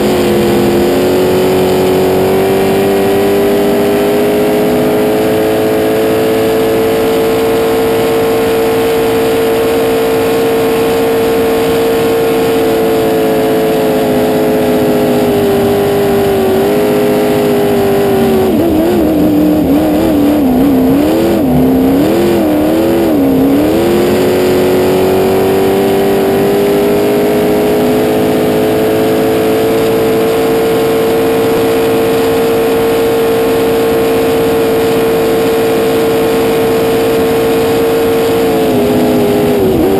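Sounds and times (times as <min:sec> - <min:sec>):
boat engine at high revs: 0:00.0 - 0:39.9.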